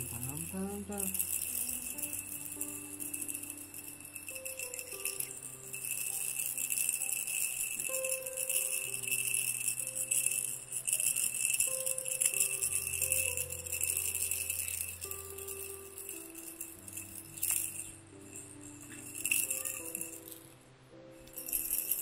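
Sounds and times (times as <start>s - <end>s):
plastic baby rattle shaken: 0.0s - 20.5s, 21.2s - 22.0s
soft held musical notes: 0.0s - 22.0s.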